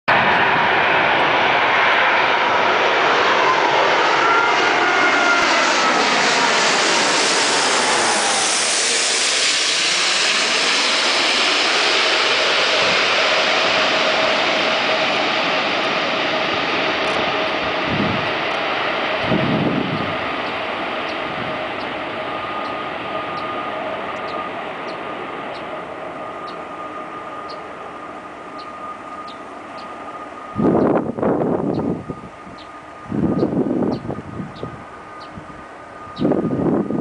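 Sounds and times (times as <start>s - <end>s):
jet airliner roar and whine: 0.1s - 37.0s.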